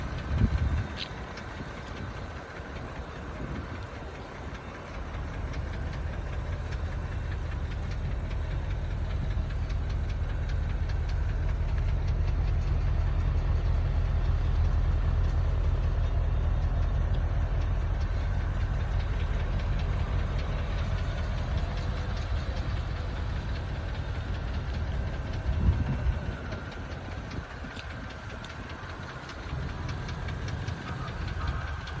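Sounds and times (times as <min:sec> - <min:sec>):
engine knocking: 0:00.0 - 0:32.0.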